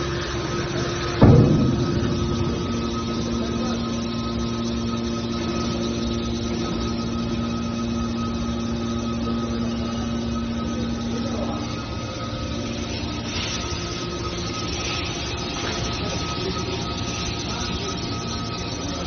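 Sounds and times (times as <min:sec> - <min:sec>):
hydraulic baler humming: 0:00.0 - 0:19.0.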